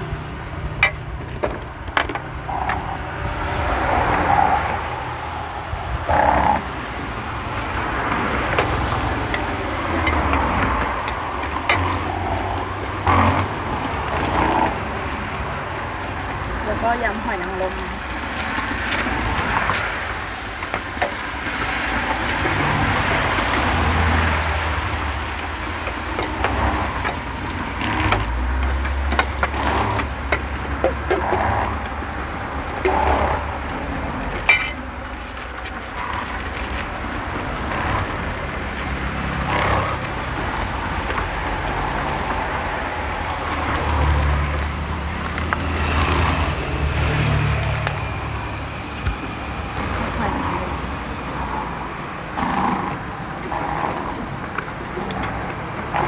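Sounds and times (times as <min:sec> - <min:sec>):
road traffic rumble: 0:00.0 - 0:56.0
street noise: 0:00.0 - 0:56.0.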